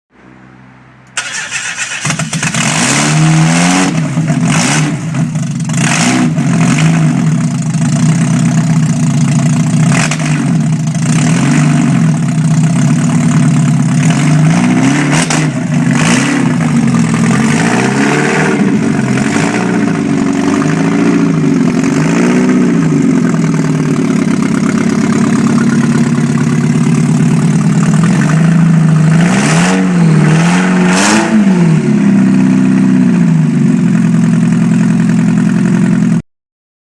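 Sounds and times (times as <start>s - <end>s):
car engine starting: 0.9s - 36.1s
loud car engine revving: 1.2s - 35.7s.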